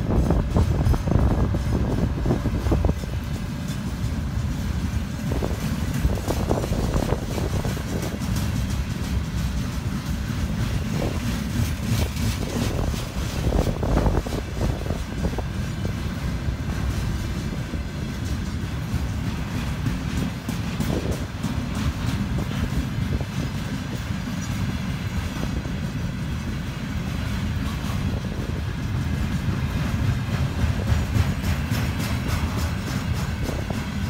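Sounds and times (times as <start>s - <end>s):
train wheels rumbling on rails: 0.0s - 34.0s
wheels clicking over rail joints: 0.0s - 34.0s.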